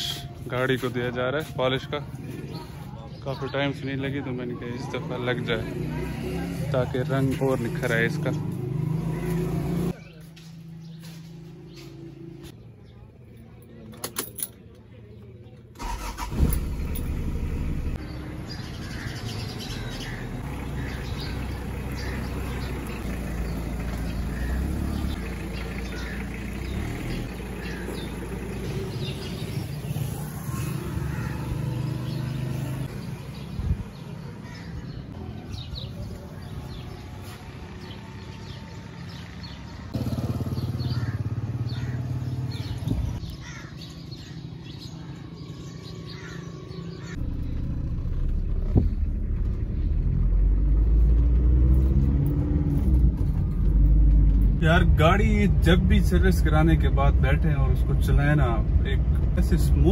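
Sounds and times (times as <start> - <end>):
birds chirping: 0.0 - 59.9
car engine and road noise: 0.0 - 59.9.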